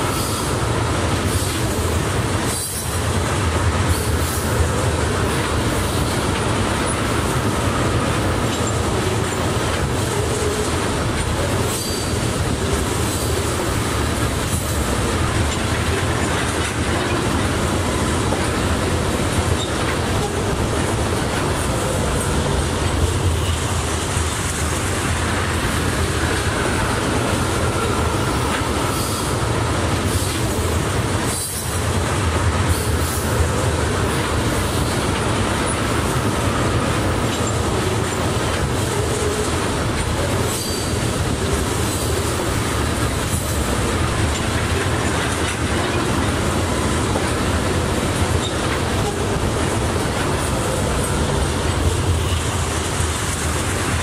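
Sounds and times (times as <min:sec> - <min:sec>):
freight train rumbling past: 0:00.0 - 0:54.0
wheels clicking over rail joints: 0:00.0 - 0:54.0.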